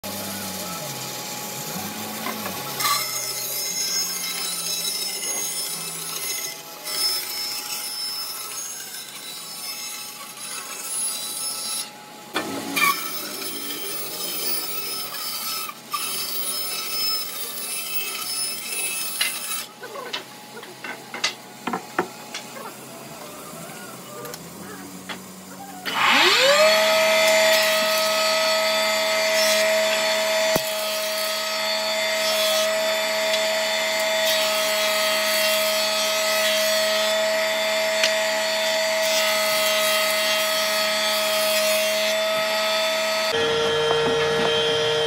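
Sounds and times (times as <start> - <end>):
band saw cutting wood: 0.0 - 45.0.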